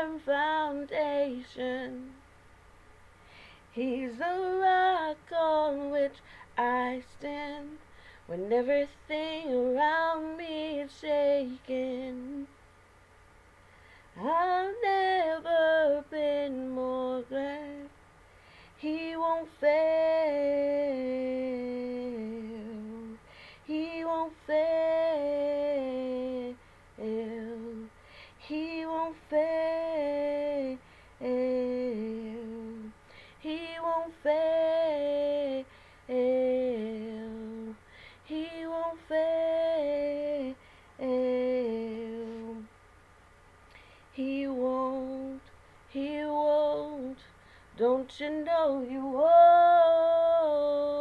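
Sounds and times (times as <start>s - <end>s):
woman singing unaccompanied: 0.0s - 2.4s, 3.6s - 12.6s, 14.1s - 18.0s, 18.7s - 42.8s, 44.1s - 51.0s.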